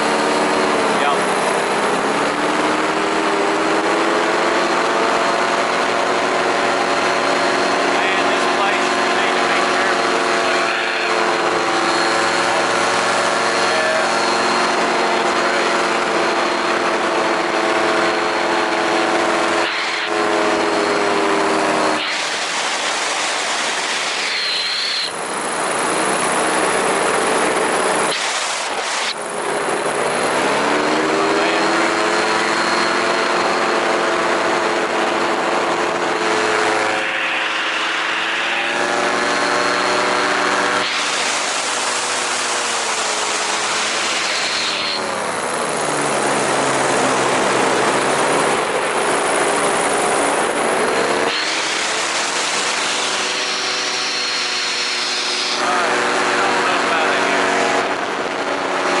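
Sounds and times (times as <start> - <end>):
electric motors and propellers whining: 0.0 - 59.0.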